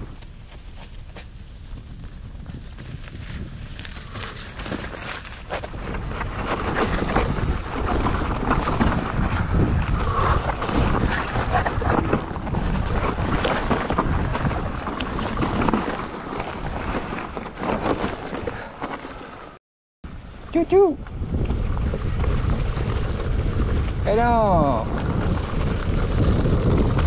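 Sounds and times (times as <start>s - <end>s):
wind rushing over microphone: 0.0s - 18.0s, 20.1s - 27.0s
mountain bike trail rattling: 0.0s - 27.0s.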